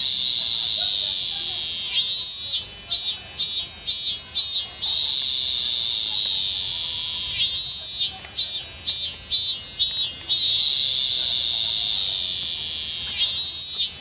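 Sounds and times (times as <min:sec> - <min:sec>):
cicada singing: 0:00.0 - 0:14.0.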